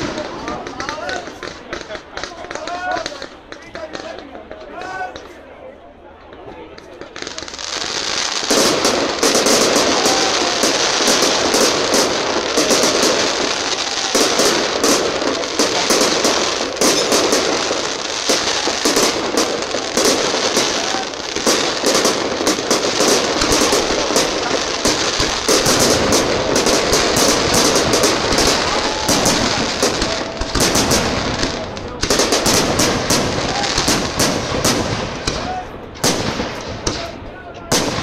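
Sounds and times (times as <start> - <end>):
fireworks crackling and popping: 0.0 - 38.0.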